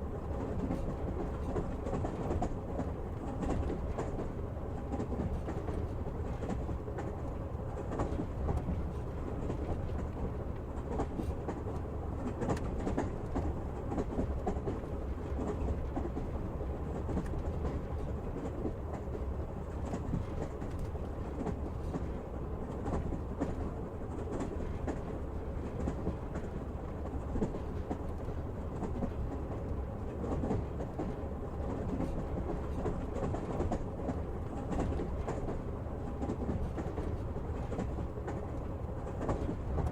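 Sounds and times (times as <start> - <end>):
train rumbling on rails: 0.0 - 39.9
train wheels clattering over track: 0.4 - 39.9.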